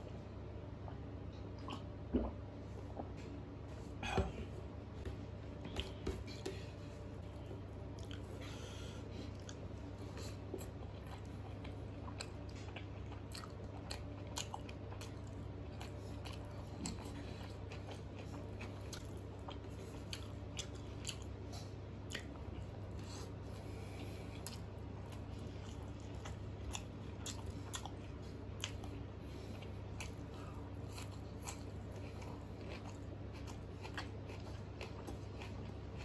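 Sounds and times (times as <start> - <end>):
man chewing food: 5.0 - 36.0.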